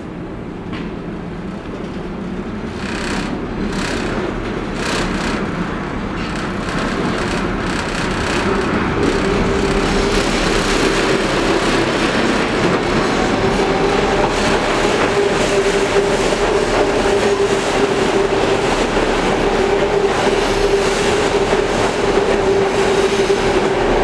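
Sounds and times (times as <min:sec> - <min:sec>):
elevated train rumbling: 0:00.0 - 0:24.0
steady whine: 0:02.6 - 0:24.0.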